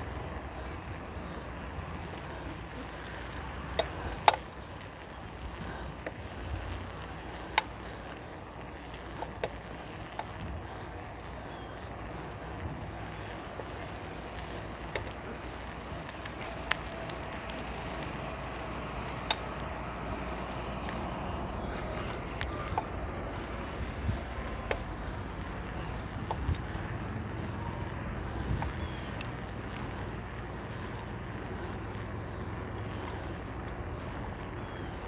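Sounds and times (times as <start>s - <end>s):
bicycle rolling: 0.0s - 35.0s
sharp clicks: 0.0s - 35.0s.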